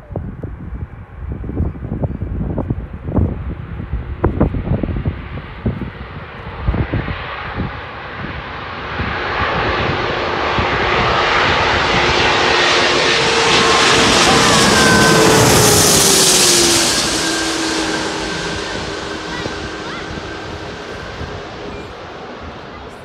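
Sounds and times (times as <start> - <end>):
jet airliner approaching: 0.0 - 23.0
wind buffeting microphone: 0.0 - 23.0.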